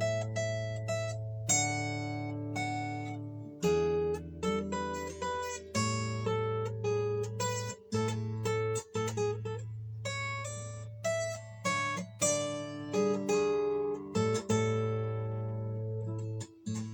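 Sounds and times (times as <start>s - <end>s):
acoustic guitar chords: 0.0s - 16.9s.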